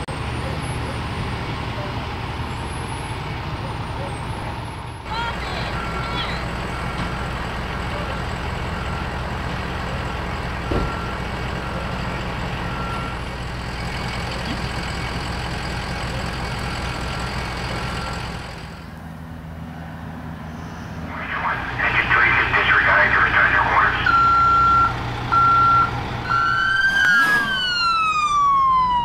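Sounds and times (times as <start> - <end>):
fire truck engines idling: 0.0 - 29.0.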